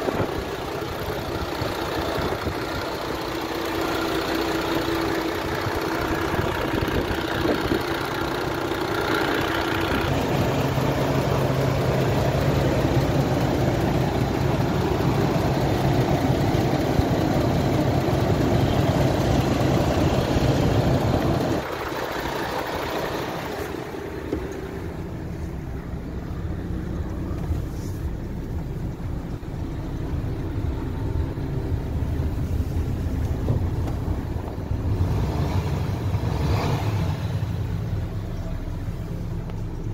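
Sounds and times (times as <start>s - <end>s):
diesel truck engine idling: 0.0s - 36.3s, 37.3s - 39.9s.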